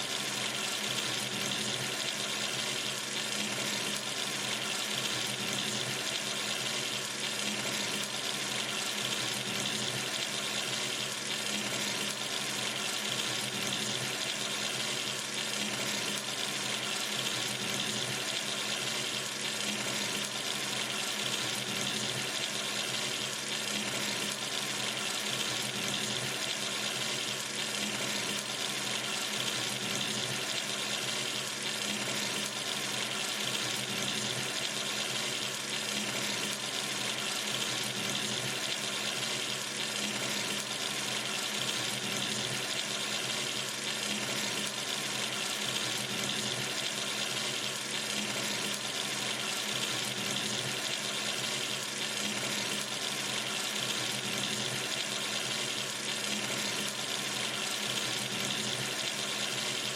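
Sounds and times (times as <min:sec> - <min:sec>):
tap water running into sink: 0:00.0 - 0:59.9.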